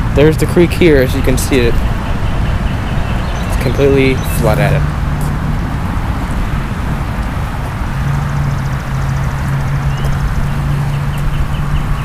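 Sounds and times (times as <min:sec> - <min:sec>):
floodwater rushing with deep rumble: 0:00.0 - 0:12.0.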